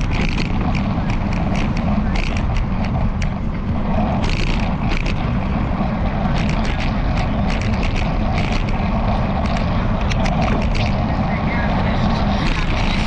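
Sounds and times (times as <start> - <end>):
wind and tyre rumble: 0.0 - 13.0.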